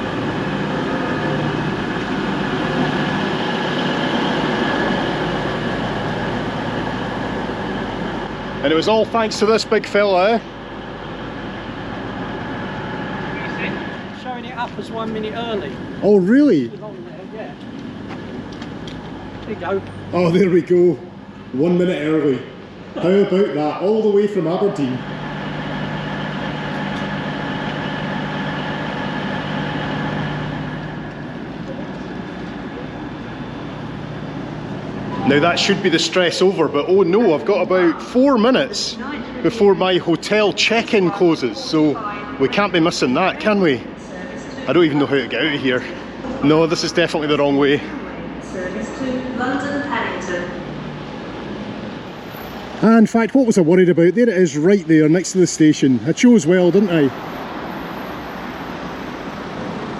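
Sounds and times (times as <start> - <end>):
diesel train engines idling: 0.0 - 59.9.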